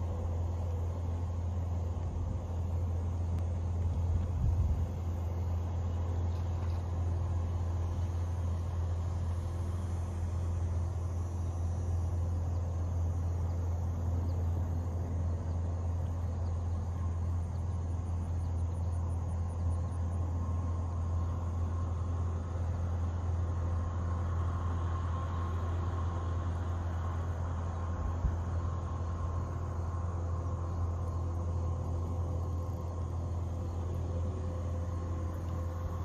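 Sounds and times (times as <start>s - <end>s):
faint high insect trill: 0.0s - 36.0s
steady low hum: 0.0s - 36.0s.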